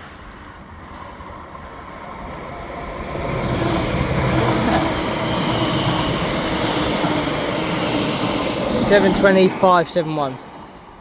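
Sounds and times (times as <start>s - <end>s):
electric train passing: 0.0s - 11.0s
wheel-on-rail noise: 0.0s - 11.0s.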